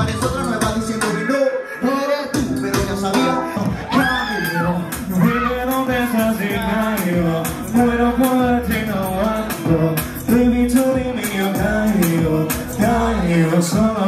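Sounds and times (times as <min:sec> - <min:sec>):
backing track with beat and bass: 0:00.0 - 0:14.0
man singing: 0:00.0 - 0:14.0.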